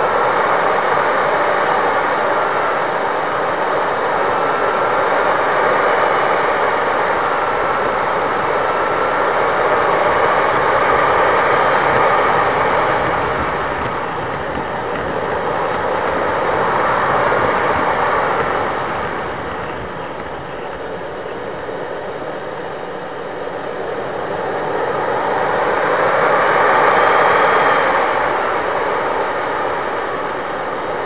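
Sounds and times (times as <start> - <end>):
model jet engine running: 0.0 - 31.0.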